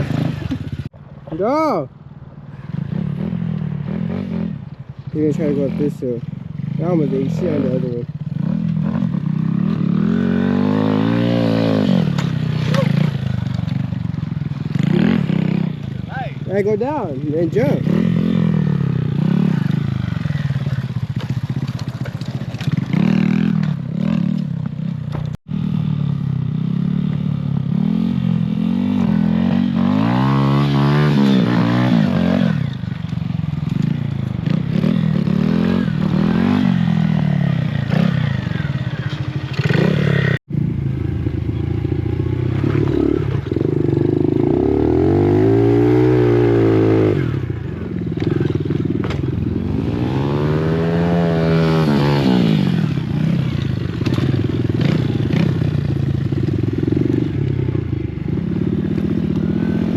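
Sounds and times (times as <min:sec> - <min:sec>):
dirt bike engine revving: 0:00.0 - 0:00.9, 0:02.6 - 0:59.9.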